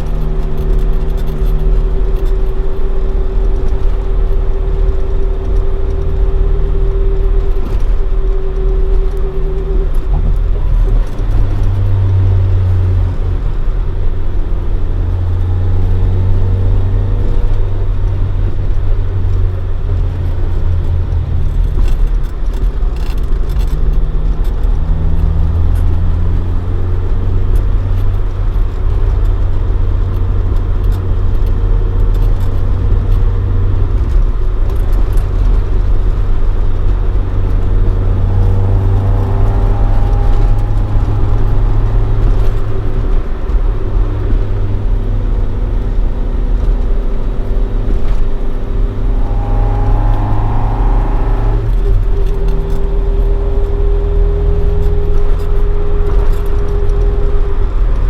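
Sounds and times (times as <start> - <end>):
car engine cruising: 0.0 - 58.0.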